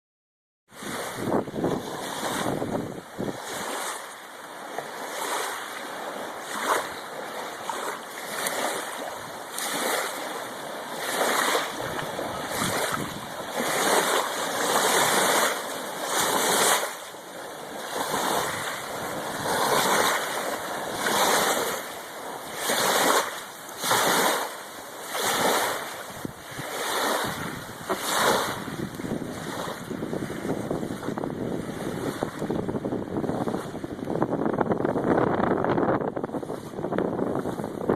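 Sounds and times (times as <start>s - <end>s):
surf rushing: 0.7s - 37.9s
wind buffeting microphone: 0.8s - 4.0s, 4.7s - 16.9s, 17.6s - 24.4s, 25.1s - 37.9s.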